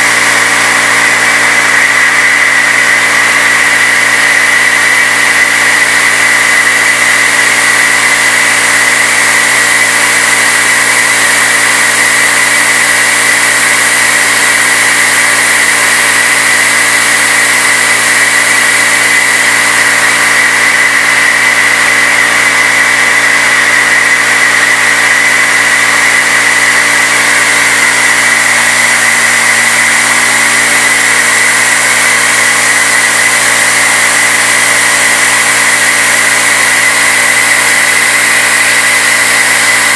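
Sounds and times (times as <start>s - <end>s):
milling machine cutting metal: 0.0s - 39.9s.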